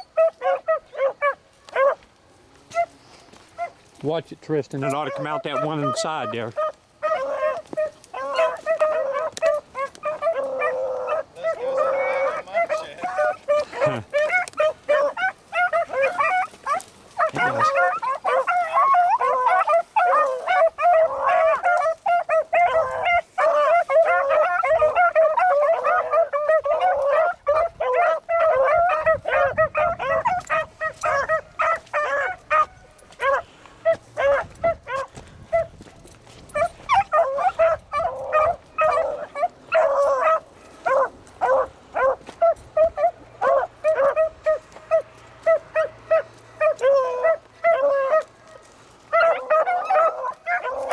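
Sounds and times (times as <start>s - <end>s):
hounds baying and howling: 0.0s - 50.9s.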